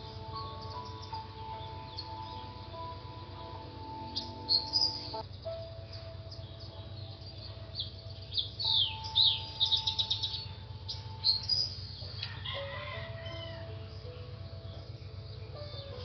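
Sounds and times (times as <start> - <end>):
small birds chirping: 0.0 - 16.0
soft background music: 0.0 - 16.0.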